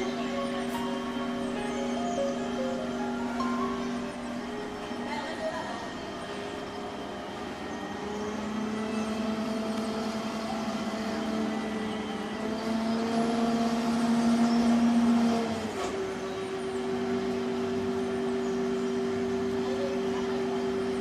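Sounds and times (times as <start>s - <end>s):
large engine running: 0.0s - 21.0s.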